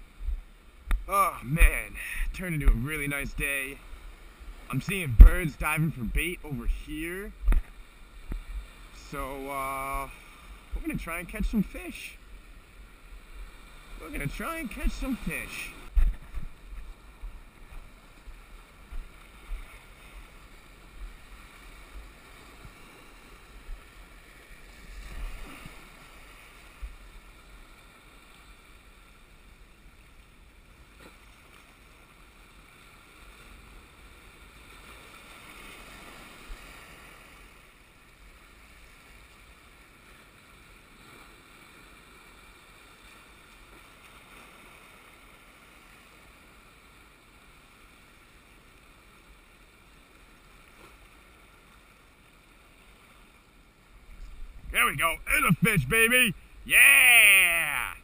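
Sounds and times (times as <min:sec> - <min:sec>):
waves breaking over rocks: 0:00.0 - 0:58.0.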